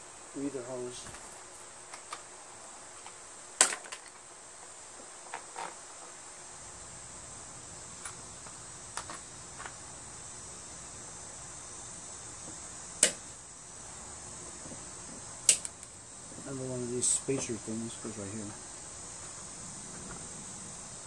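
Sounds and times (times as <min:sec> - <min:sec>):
steady high-pitched hiss: 0:00.0 - 0:21.0.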